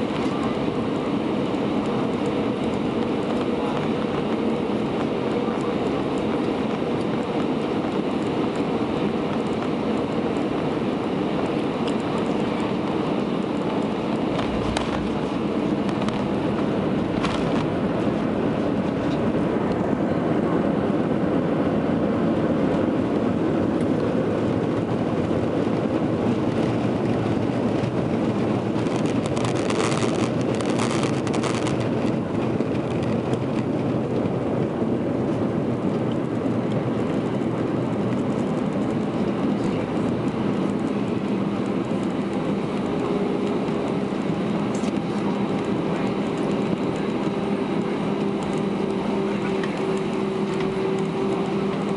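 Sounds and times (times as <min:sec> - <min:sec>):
airliner cabin rumble: 0:00.0 - 0:51.9.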